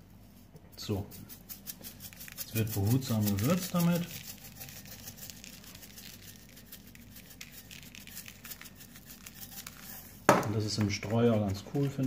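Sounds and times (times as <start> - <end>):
spice grains rattling in shaker: 0.8 - 12.0.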